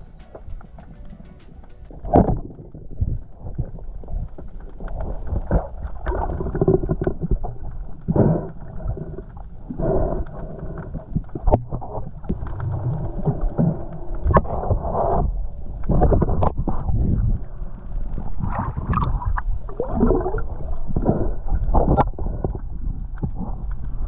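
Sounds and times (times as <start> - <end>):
underwater water rushing: 0.0 - 24.0.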